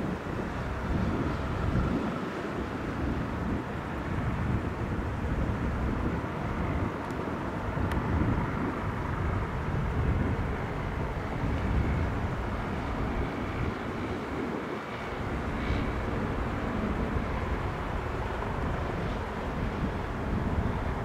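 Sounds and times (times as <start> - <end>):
helicopter rotor and engines: 0.0 - 21.0
high turbine whine: 0.0 - 21.0.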